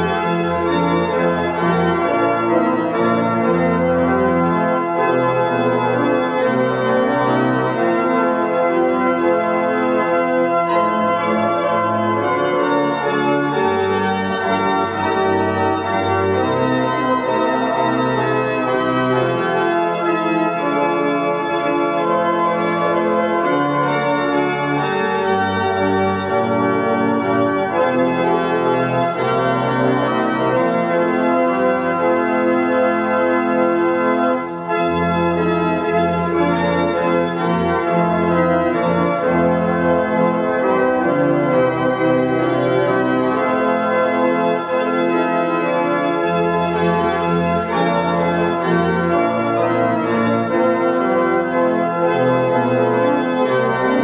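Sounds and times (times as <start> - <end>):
organ playing a hymn: 0.0 - 54.0.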